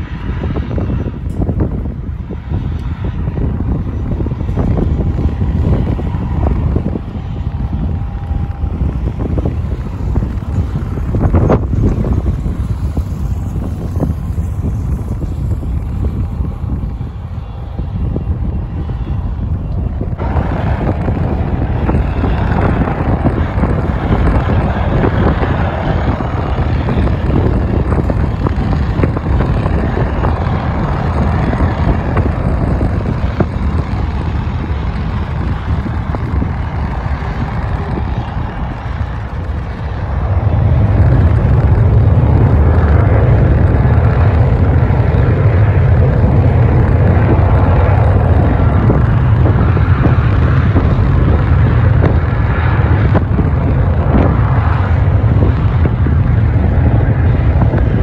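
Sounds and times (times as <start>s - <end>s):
military aircraft engine rumble: 0.0s - 58.0s.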